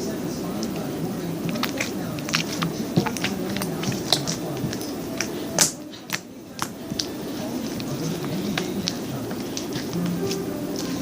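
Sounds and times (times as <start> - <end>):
low background hum: 0.0 - 11.0
slime squishing wet clicks: 1.5 - 11.0.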